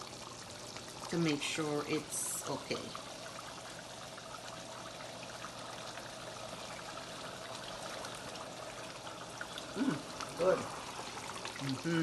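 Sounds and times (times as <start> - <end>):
curry simmering with bubbling hiss: 0.0 - 12.0.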